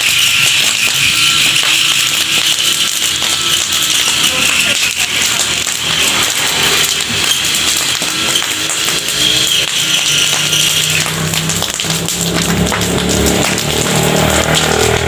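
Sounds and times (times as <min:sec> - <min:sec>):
fire crackling and hissing: 0:00.0 - 0:15.0.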